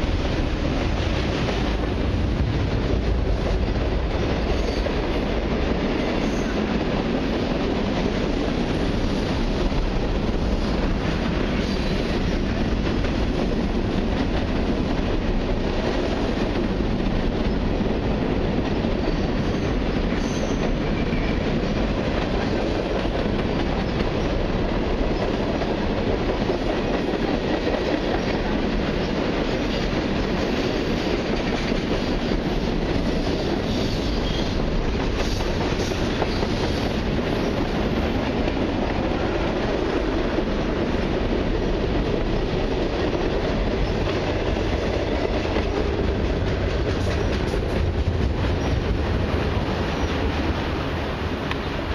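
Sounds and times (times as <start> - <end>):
freight train wheels on rails: 0.0 - 51.9.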